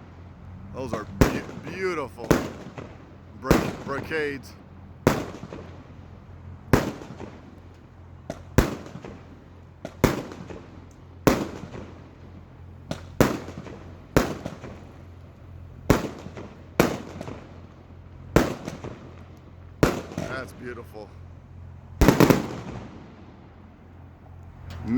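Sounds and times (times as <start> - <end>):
fireworks bursting with bangs: 0.7 - 21.4, 22.0 - 23.7.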